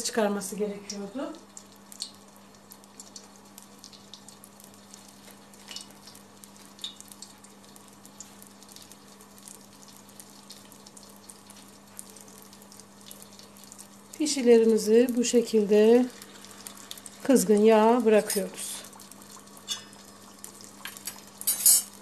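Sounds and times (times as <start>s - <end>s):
dough sizzling in oil: 0.0s - 22.0s.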